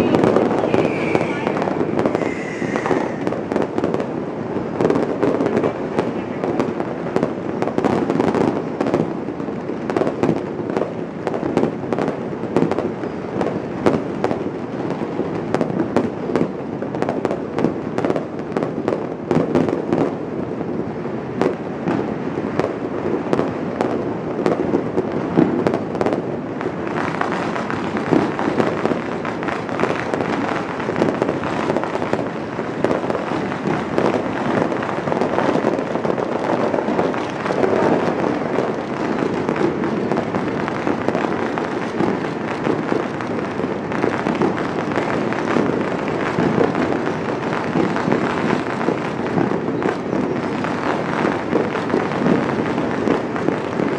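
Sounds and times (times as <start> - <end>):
fireworks bangs and crackle: 0.0 - 53.9.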